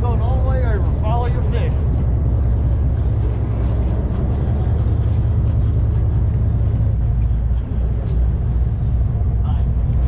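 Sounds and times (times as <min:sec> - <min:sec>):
boat engines rumbling: 0:00.0 - 0:10.0
wind on microphone: 0:00.0 - 0:10.0.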